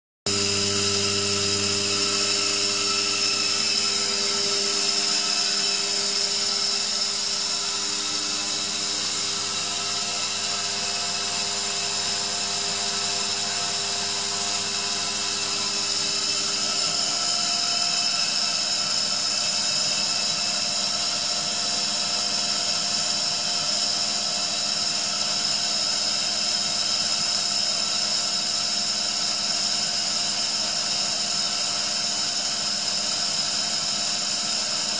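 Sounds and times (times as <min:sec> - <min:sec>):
air compressor running: 0:00.3 - 0:34.9.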